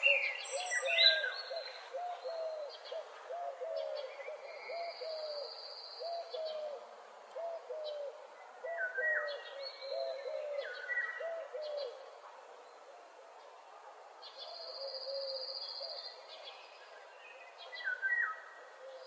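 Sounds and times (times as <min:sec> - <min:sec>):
songbirds chirping and whistling: 0:00.0 - 0:12.1, 0:14.2 - 0:19.0.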